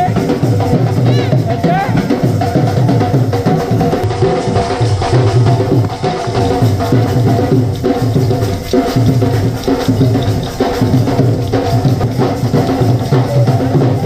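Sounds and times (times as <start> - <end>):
dhol drum beating: 0.0 - 14.0.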